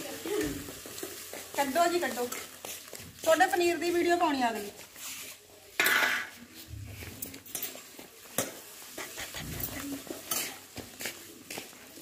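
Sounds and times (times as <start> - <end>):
utensil stirring in a metal wok: 0.0 - 11.5.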